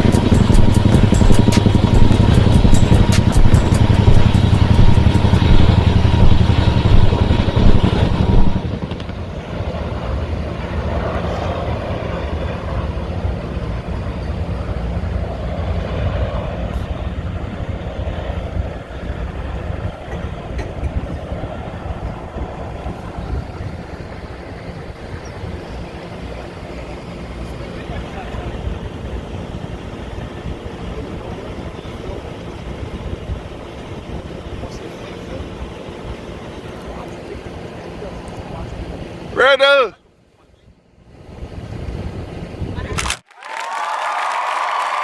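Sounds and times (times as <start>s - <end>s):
steady rushing noise: 0.0s - 39.8s
helicopter rotor pulsing rumble: 0.0s - 43.3s
turbine whine: 0.0s - 43.3s.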